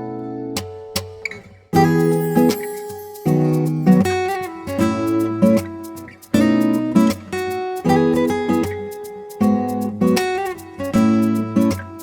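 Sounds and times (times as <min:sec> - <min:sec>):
acoustic guitar strumming: 0:00.6 - 0:12.0.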